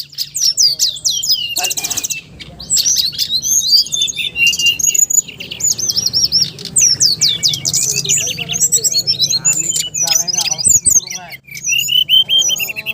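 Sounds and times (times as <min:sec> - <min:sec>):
songbird singing: 0:00.0 - 0:12.9.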